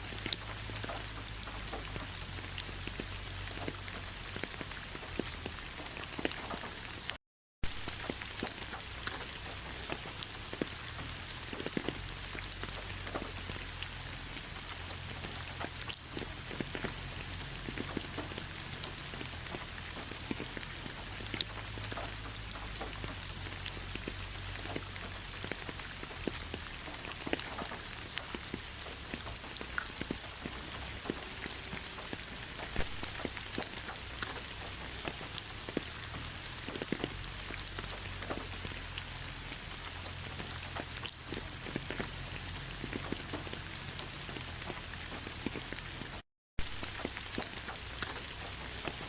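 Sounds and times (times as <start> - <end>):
rain pattering on leaves: 0.0 - 49.0.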